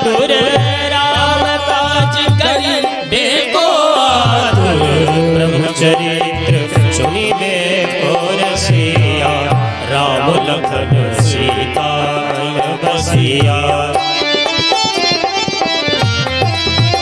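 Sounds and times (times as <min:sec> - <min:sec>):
hand drum rhythm: 0:00.0 - 0:17.0
harmonium chords: 0:00.0 - 0:17.0.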